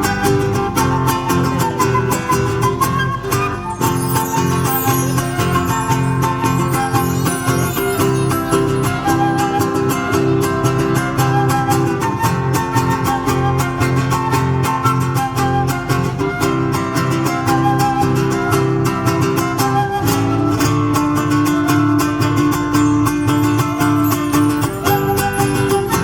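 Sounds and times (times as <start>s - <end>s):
folk music with strummed guitars: 0.0s - 26.0s.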